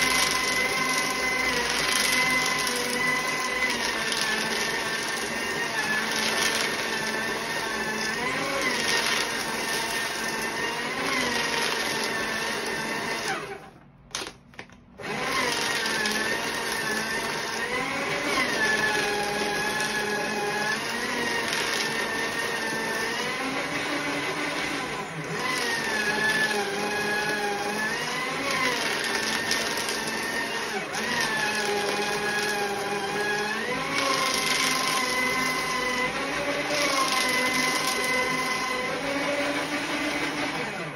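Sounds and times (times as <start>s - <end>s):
paper shredder running: 0.0s - 40.9s.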